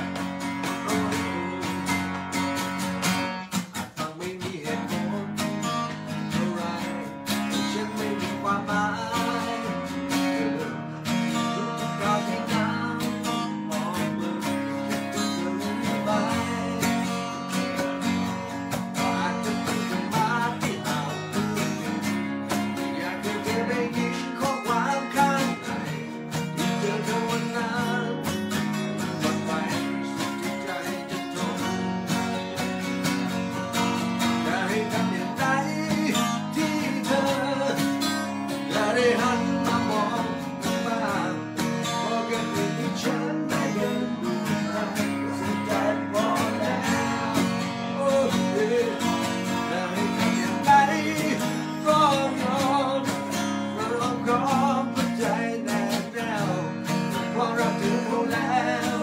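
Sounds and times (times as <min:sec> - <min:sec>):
acoustic guitars strummed: 0:00.0 - 0:59.0
man singing: 0:00.0 - 0:59.0.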